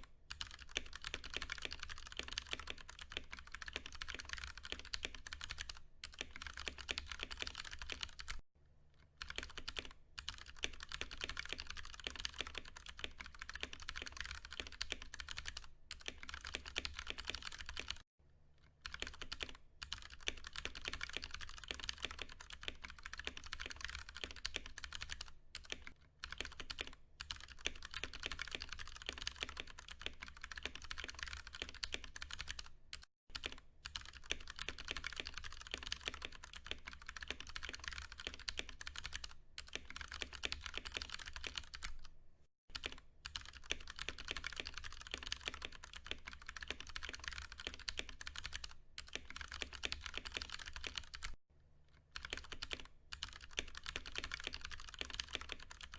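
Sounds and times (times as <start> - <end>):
mechanical keyboard typing: 0.3 - 8.4, 9.2 - 18.0, 18.8 - 42.1, 42.7 - 51.4, 52.1 - 55.9.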